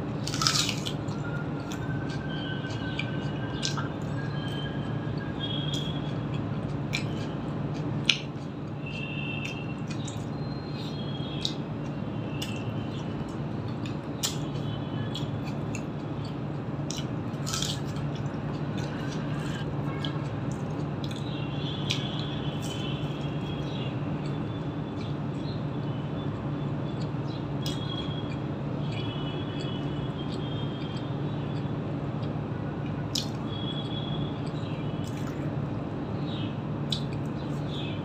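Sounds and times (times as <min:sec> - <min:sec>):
steady low hum: 0:00.0 - 0:38.0
wet chewing mouth sounds: 0:00.1 - 0:25.6, 0:27.0 - 0:35.5, 0:36.9 - 0:37.8.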